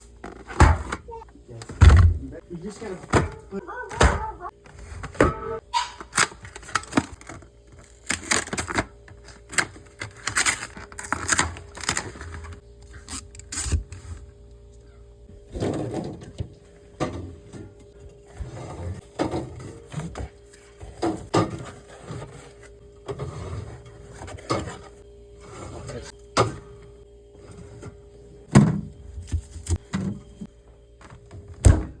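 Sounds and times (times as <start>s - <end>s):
faint fridge hum: 0.0s - 32.0s.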